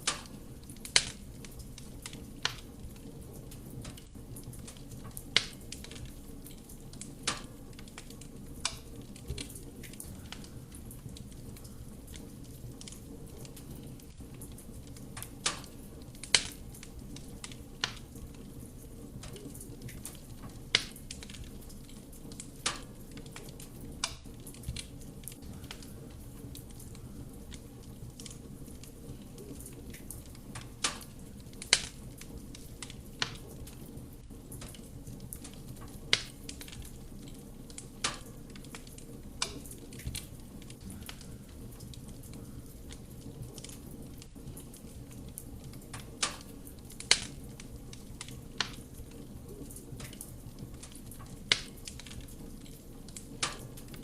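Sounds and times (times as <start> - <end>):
fire flames rushing: 0.0 - 54.0
wood crackling and popping: 0.0 - 54.0.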